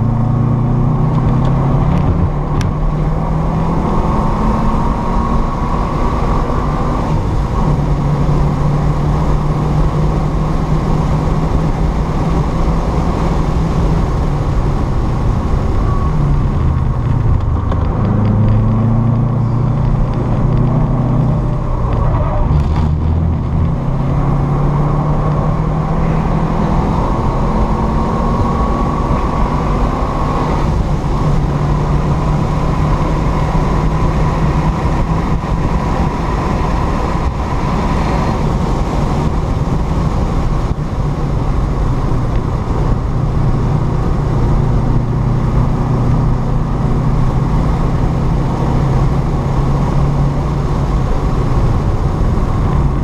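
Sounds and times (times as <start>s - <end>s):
car engine from inside cabin: 0.0s - 53.0s
road and wind noise: 0.0s - 53.0s.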